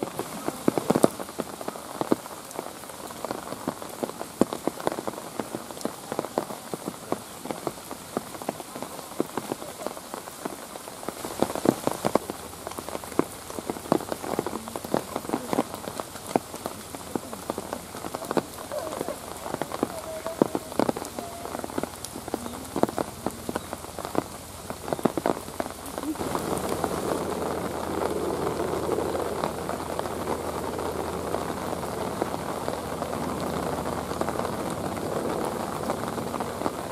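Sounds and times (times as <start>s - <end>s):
raindrops ticking on hard surface: 0.0s - 36.9s
steady rain: 0.0s - 36.9s.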